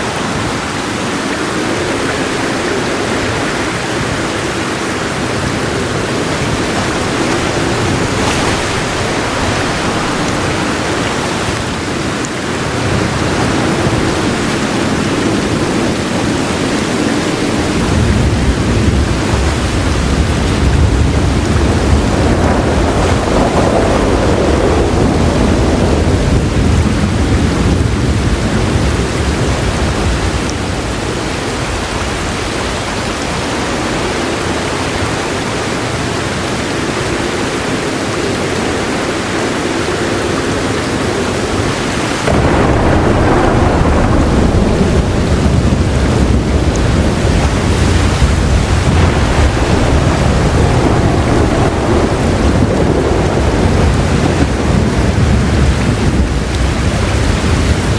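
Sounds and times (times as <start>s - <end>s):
low thunder rumble: 0.0s - 34.2s, 39.7s - 57.9s
heavy rain falling: 0.0s - 57.9s.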